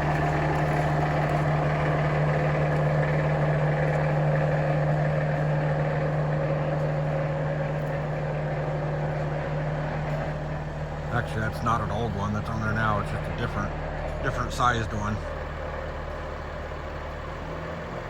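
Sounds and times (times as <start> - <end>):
heavy engine droning: 0.0 - 18.0.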